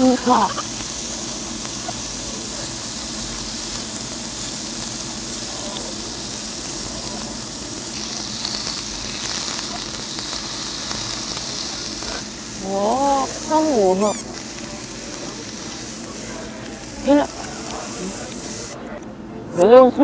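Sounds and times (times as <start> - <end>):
meat sizzling on grill plate: 0.0 - 18.8.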